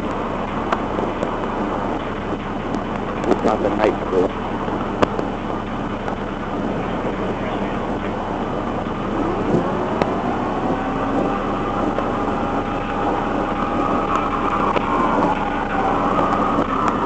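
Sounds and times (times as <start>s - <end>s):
rising whine: 0.0s - 17.0s
vehicle road and engine noise: 0.0s - 17.0s.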